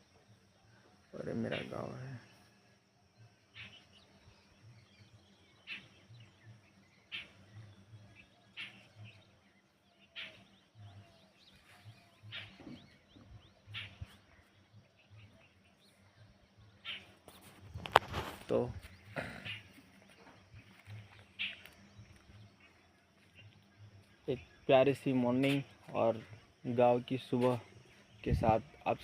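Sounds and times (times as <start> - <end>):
small bird chirps: 3.4 - 29.0.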